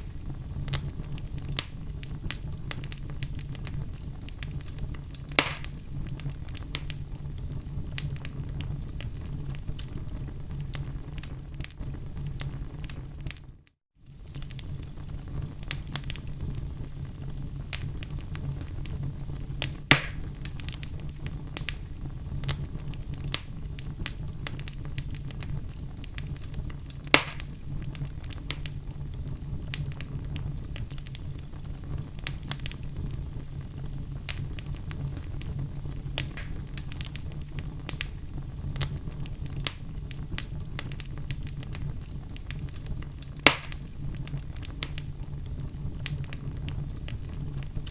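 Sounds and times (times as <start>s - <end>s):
burning wood crackling: 0.0s - 47.9s
fire flames rumbling: 0.0s - 47.9s
fire popping loudly: 0.0s - 47.9s.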